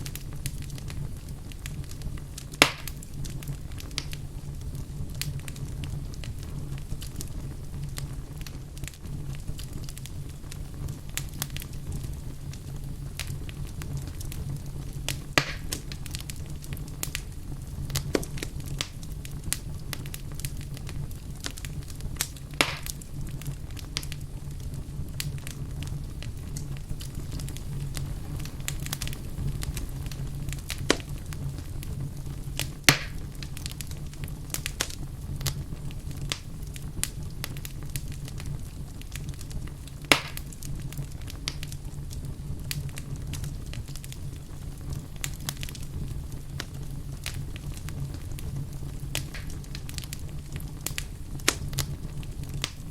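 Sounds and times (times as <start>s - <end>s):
low rumble of flames: 0.0s - 52.9s
sharp pops of fire: 0.0s - 52.9s
wood fire crackling: 0.0s - 52.9s.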